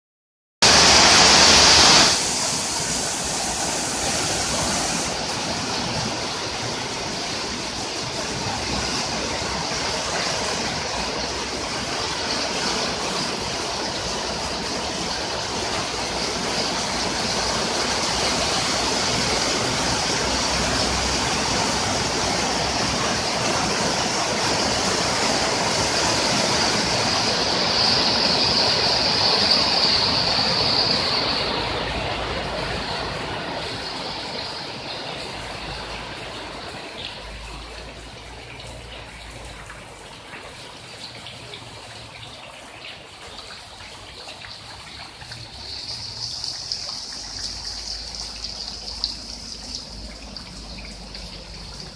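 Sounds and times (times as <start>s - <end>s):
heavy rain on water: 0.6s - 51.9s.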